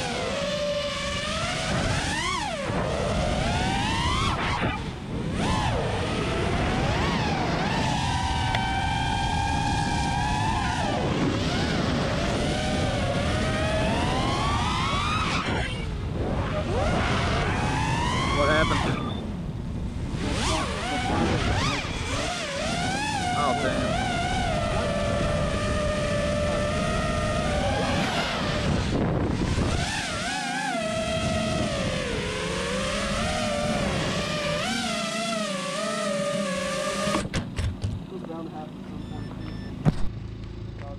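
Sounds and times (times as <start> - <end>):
drone motors whining: 0.0 - 40.9
wind rush: 0.8 - 34.4.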